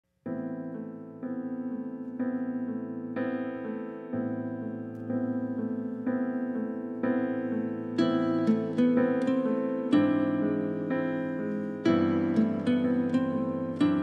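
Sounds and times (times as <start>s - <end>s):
keyboard playing slow chords: 0.3s - 14.0s.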